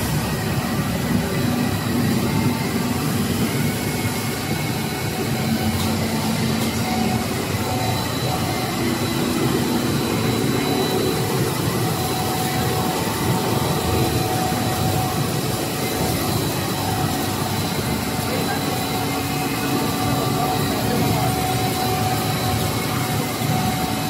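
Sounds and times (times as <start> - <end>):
faint high whine: 0.0 - 24.0
machine drone: 0.0 - 24.0.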